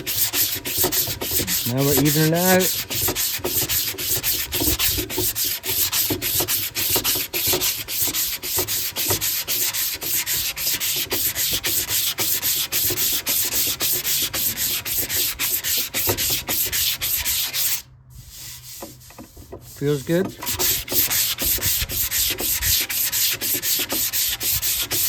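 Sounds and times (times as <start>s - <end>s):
sandpaper rasping strokes: 0.0s - 25.0s.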